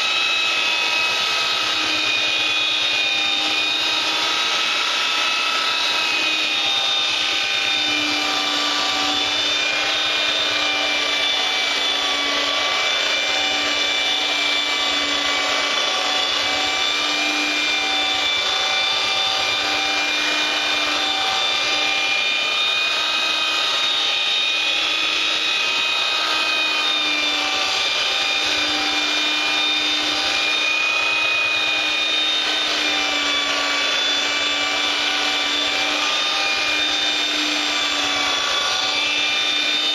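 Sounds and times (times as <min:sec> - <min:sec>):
power sander on wood: 0:00.0 - 0:39.9.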